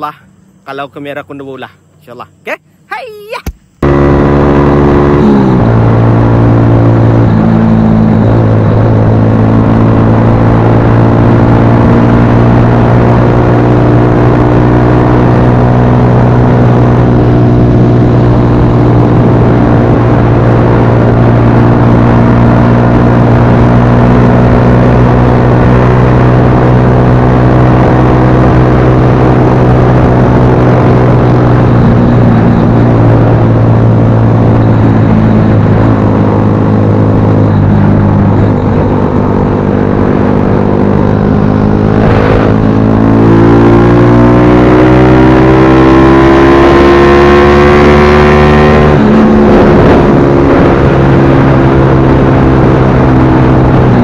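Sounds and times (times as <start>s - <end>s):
motorcycle engine running: 3.4s - 54.0s.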